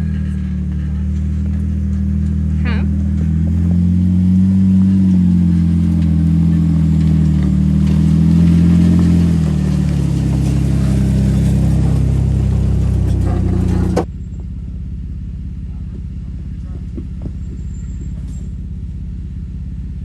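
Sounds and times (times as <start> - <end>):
off-road vehicle engine under load: 0.0 - 20.0.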